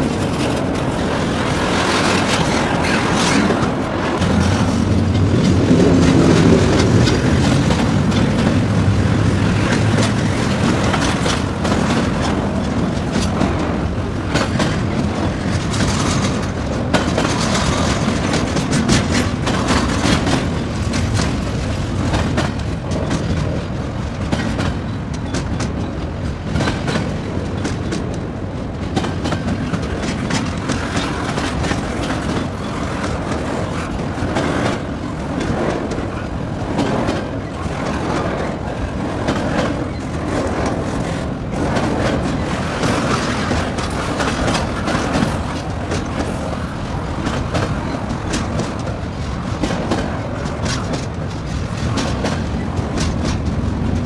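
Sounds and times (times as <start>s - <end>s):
train rumble: 0.0s - 54.0s
train wheels clacking over rail joints: 0.0s - 54.0s.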